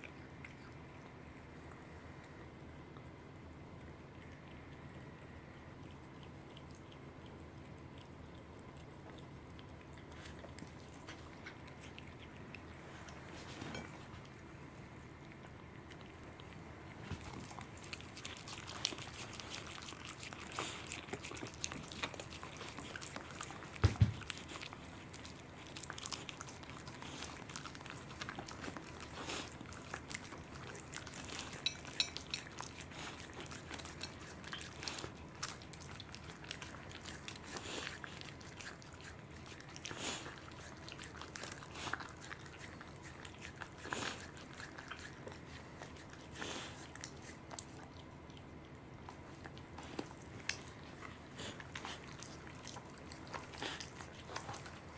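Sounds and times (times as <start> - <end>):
animals chewing and smacking: 0.0 - 54.9.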